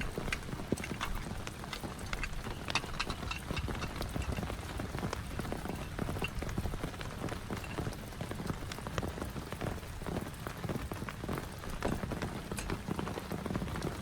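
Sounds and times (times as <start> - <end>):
heavy rain falling: 0.0 - 14.0
raindrops tapping a surface: 0.0 - 14.0.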